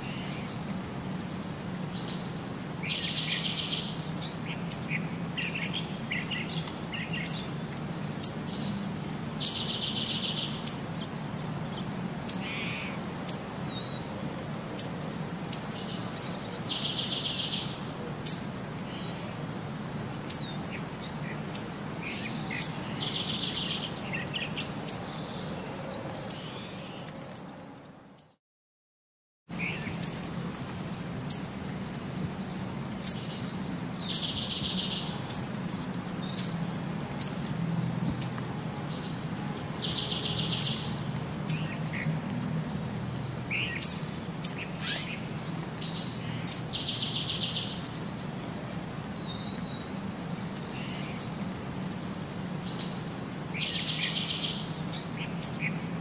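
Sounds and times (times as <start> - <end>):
birds chirping: 0.0 - 19.3, 20.1 - 28.4, 29.6 - 48.4, 49.0 - 55.8.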